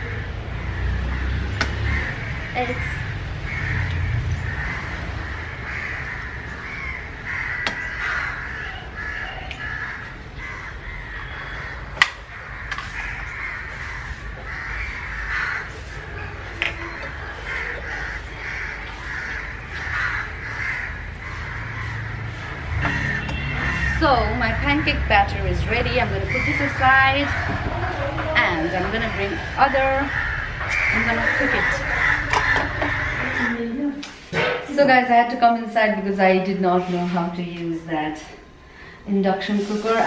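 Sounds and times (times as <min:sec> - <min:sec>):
crows cawing: 0:00.0 - 0:33.8.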